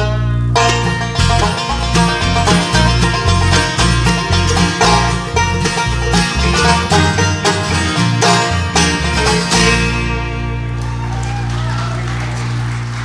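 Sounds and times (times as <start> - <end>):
banjo rolls: 0.0 - 13.0
bluegrass band playing: 0.0 - 13.0.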